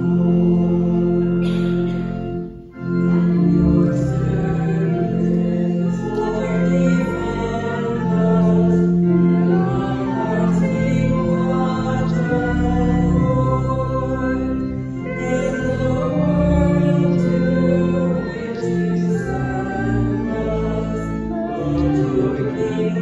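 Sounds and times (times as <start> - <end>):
congregation singing a hymn: 0.0 - 23.0
organ accompaniment: 0.0 - 23.0.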